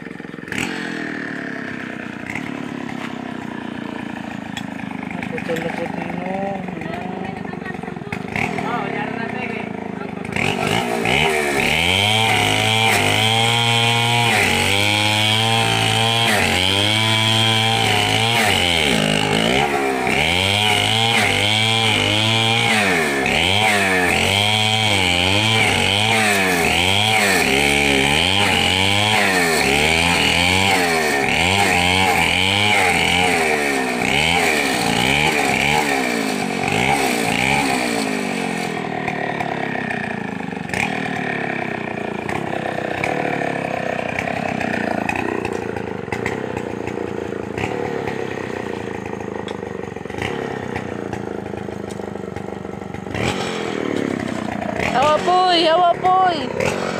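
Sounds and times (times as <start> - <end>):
chainsaw cutting log: 0.0 - 56.9.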